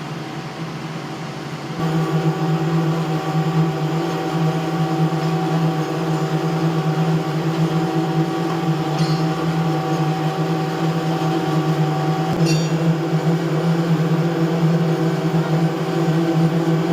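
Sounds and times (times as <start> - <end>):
machine engine droning: 0.0 - 16.9.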